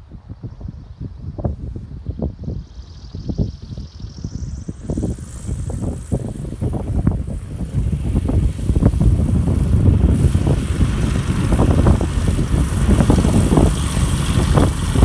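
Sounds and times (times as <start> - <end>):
propeller plane engine idling: 0.1 - 15.0.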